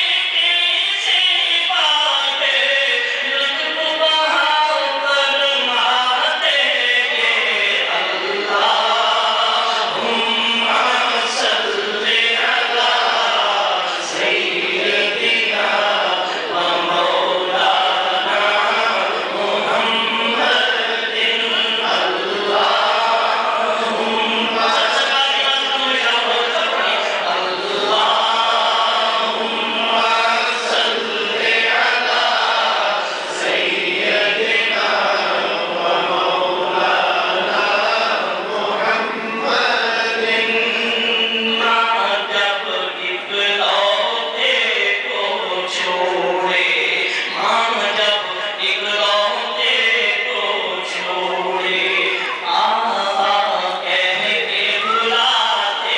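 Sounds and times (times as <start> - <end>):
man chanting into a microphone: 0.0 - 55.9.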